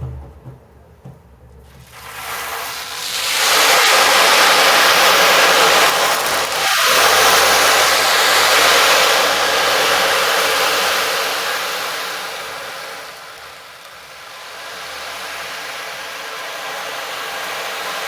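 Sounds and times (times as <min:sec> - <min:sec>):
loud rushing hiss: 0:01.8 - 0:18.0.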